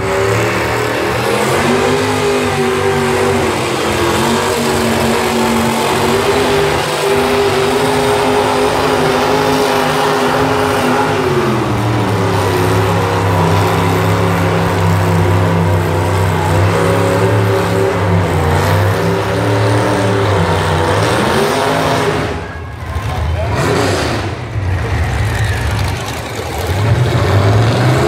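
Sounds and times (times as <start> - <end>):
tractor engine running hard: 0.0 - 28.0.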